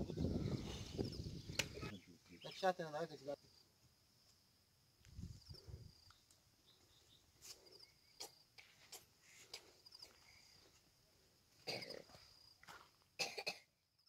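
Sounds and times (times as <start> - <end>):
insect chirring: 0.0 - 13.1.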